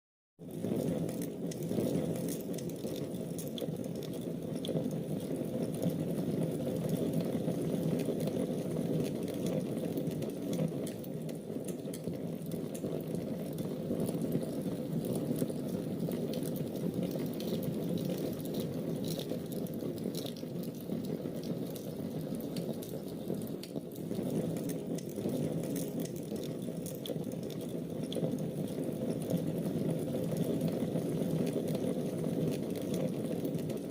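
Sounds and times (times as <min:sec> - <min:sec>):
fire crackles and pops: 0:00.4 - 0:33.9
wood fire burning: 0:00.5 - 0:33.9.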